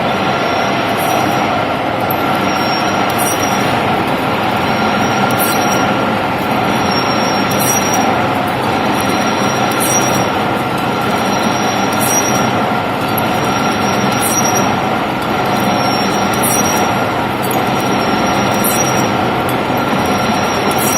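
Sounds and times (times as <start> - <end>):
metal lathe cutting steel: 0.0 - 20.9.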